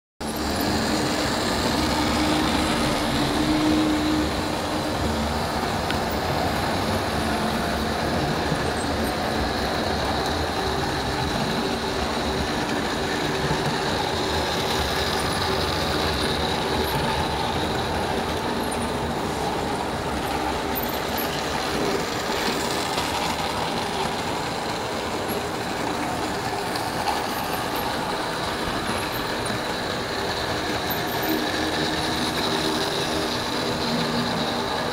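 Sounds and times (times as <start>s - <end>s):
model train running on track: 0.2s - 34.9s.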